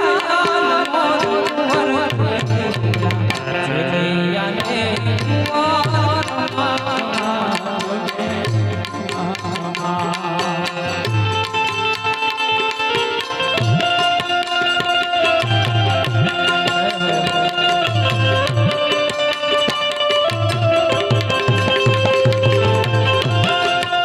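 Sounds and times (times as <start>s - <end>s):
tabla strokes: 0.0s - 24.0s.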